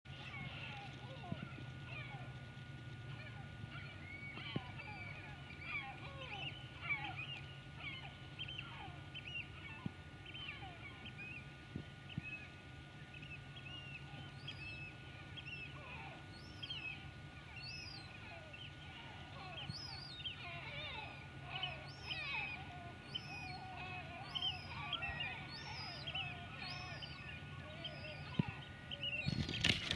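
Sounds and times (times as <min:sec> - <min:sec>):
faint steady low hum: 0:00.1 - 0:29.9
flock of birds calling: 0:00.1 - 0:29.9.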